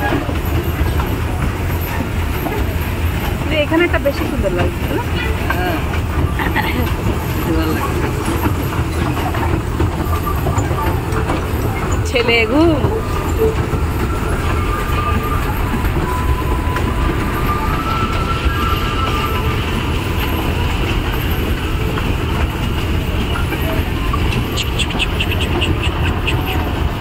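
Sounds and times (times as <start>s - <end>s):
toy train rumble: 0.0s - 27.0s.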